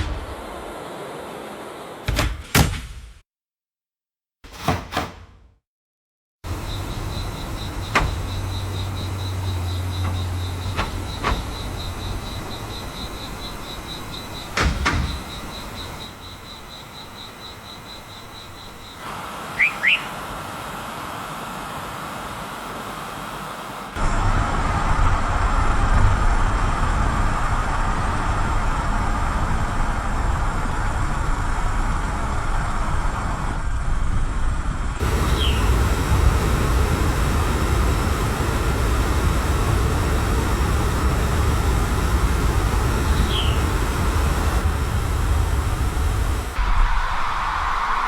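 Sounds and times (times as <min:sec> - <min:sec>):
low rumble of traffic: 0:06.4 - 0:48.0.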